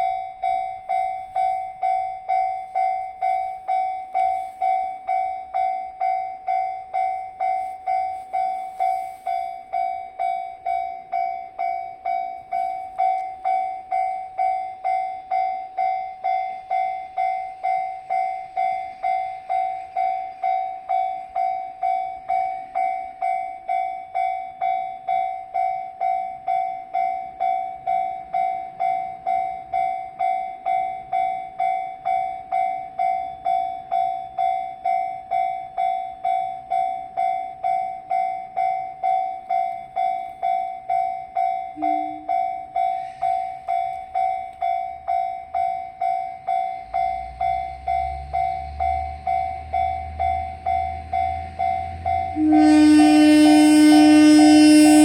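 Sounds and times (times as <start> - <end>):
approaching train rumble: 0.0 - 55.0
level-crossing alarm ringing: 0.0 - 55.0.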